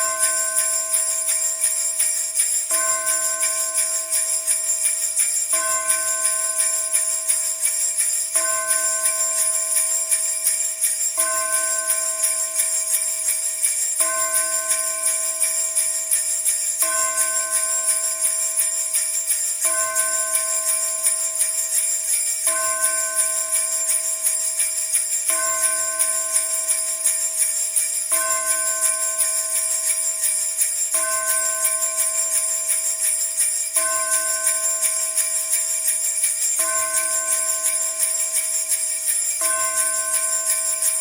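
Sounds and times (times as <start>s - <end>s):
sleigh bells jingling: 0.0s - 41.0s.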